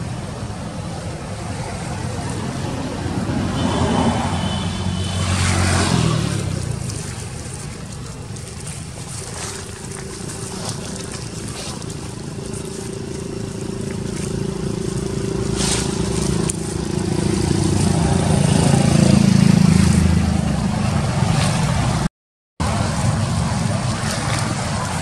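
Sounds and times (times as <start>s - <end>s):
motor rumbling: 0.0s - 25.0s.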